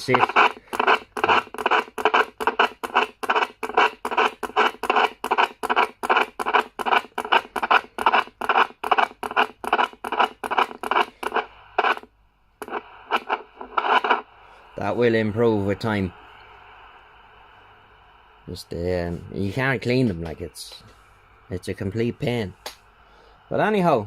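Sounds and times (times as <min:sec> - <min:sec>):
radio receiver hiss pulsing: 0:00.0 - 0:24.0.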